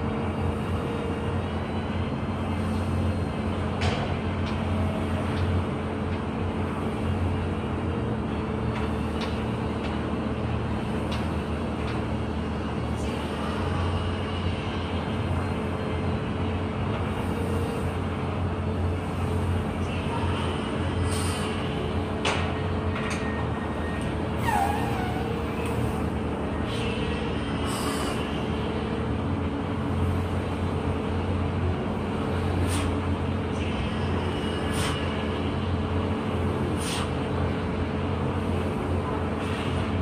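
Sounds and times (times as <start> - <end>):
low machinery hum: 0.0 - 40.0.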